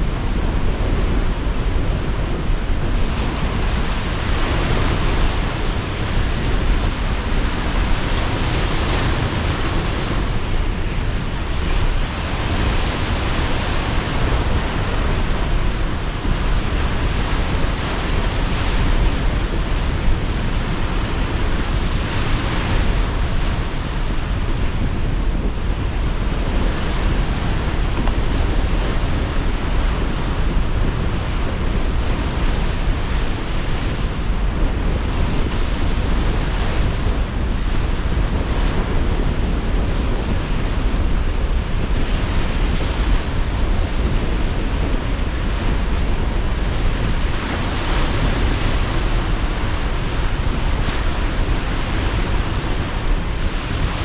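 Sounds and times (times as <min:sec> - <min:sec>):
strong wind: 0:00.0 - 0:54.0
sea surf breaking: 0:02.6 - 0:54.0.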